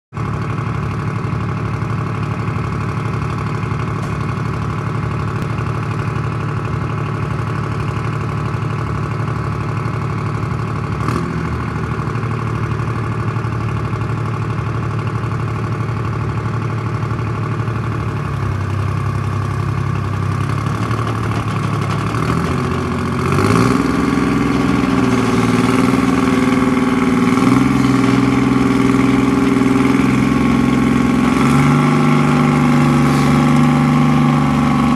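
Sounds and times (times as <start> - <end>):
tracked vehicle engine idling: 0.1 - 34.9.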